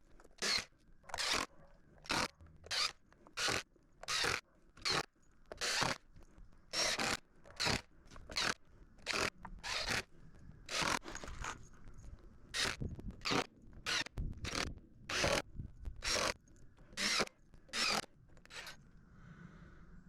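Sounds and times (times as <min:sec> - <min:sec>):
hand tool scraping wood: 0:00.2 - 0:06.0, 0:06.7 - 0:11.6, 0:12.5 - 0:15.4, 0:16.0 - 0:18.8.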